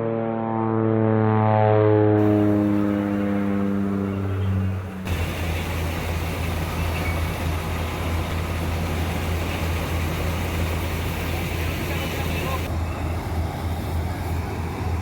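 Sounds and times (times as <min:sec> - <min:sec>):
harvesting machine engine: 0:02.2 - 0:15.0.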